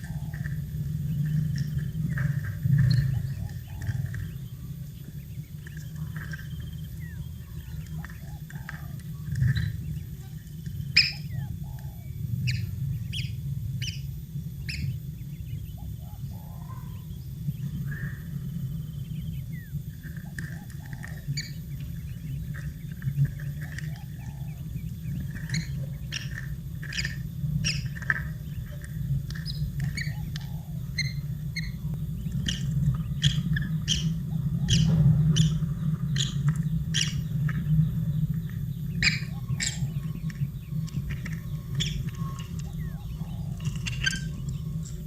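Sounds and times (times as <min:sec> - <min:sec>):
chicks chirping: 0:00.0 - 0:45.0
low hum: 0:00.0 - 0:45.0.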